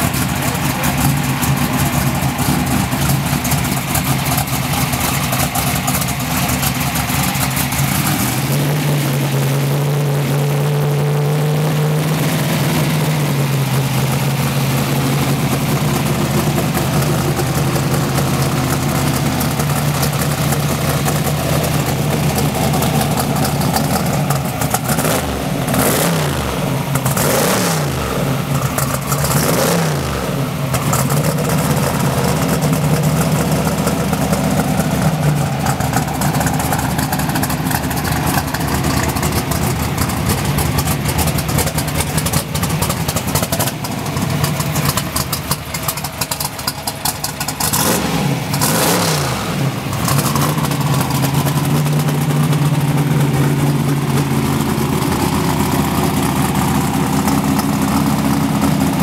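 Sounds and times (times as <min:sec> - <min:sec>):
engine throttle blips: 0:00.0 - 0:59.0
racing engine idling: 0:00.0 - 0:59.0.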